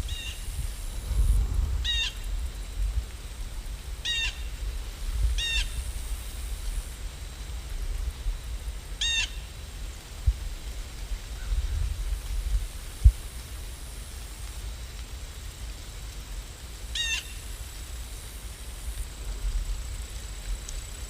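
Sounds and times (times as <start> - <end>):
rain rumble: 0.0 - 21.0.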